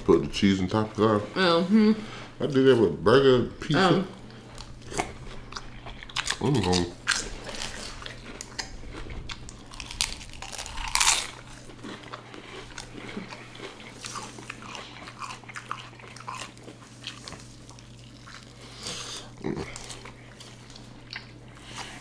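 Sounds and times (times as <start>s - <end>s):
crunchy chewing of fried food: 4.3s - 22.0s.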